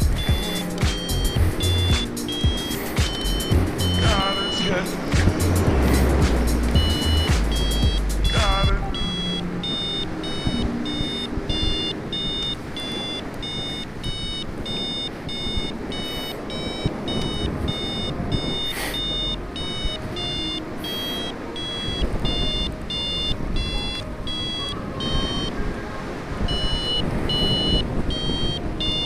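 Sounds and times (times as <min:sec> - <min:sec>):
rapid short variometer beeps: 0:00.0 - 0:25.6, 0:26.5 - 0:29.0
wind rush: 0:00.0 - 0:29.0.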